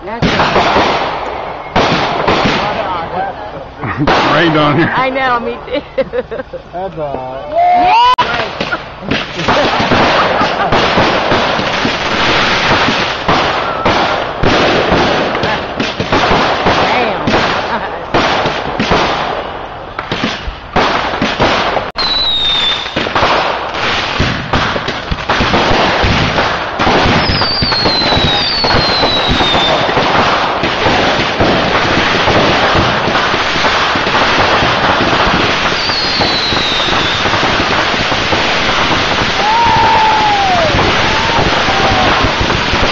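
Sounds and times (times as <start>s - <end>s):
fireworks bangs: 0.0s - 6.5s, 7.6s - 42.9s
fireworks crackle: 0.0s - 6.8s, 7.9s - 42.9s
falling fireworks whistles: 0.4s - 2.8s, 7.6s - 16.4s, 18.9s - 42.9s.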